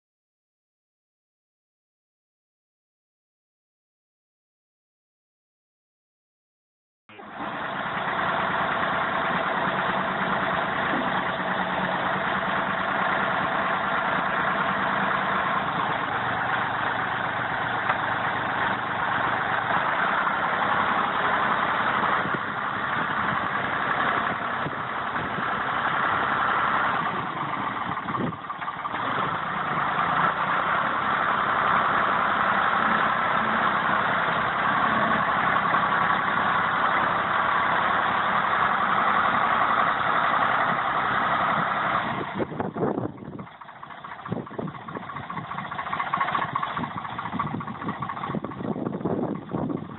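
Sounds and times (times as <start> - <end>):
tractor diesel engine running: 7.1 - 49.9.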